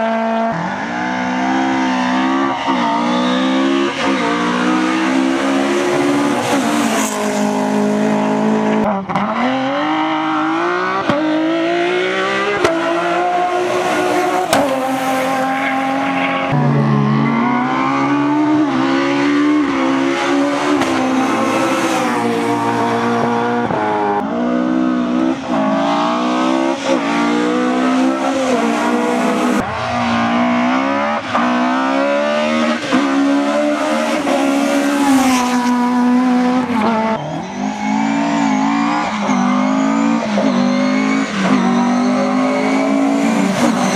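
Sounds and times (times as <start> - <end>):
rally car engines at full throttle: 0.0 - 43.9.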